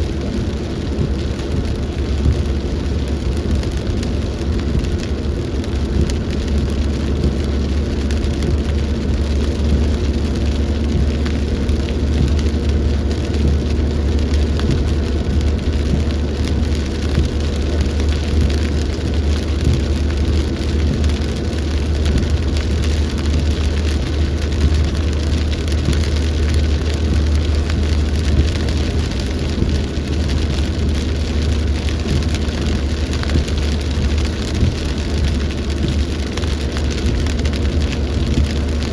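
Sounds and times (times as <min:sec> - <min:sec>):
deep continuous rumble: 0:00.0 - 0:38.9
heavy rain pouring: 0:00.0 - 0:38.9.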